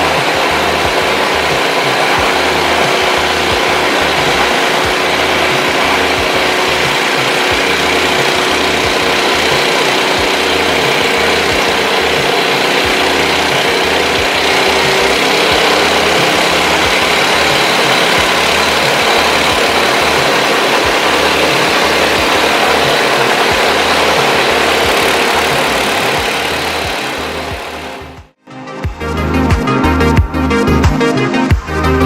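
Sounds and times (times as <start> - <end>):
flour mill grinding: 0.0 - 28.2
small petrol engine running: 0.0 - 28.4.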